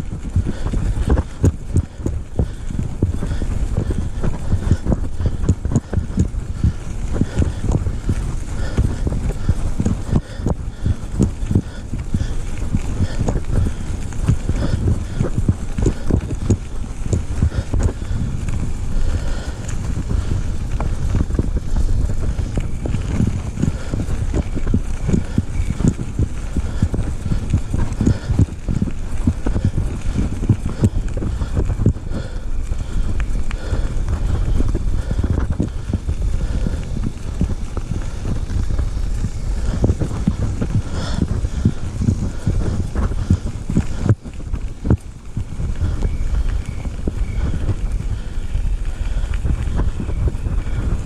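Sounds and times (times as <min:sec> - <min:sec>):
horse hooves clip-clopping: 0:00.0 - 0:51.0
low microphone rumble: 0:00.0 - 0:51.0.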